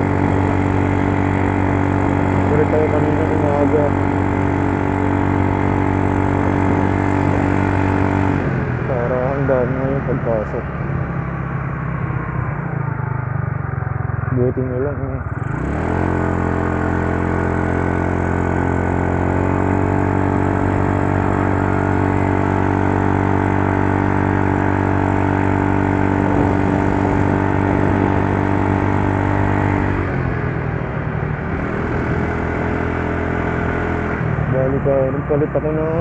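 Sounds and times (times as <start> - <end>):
scooter engine running: 0.0 - 36.0.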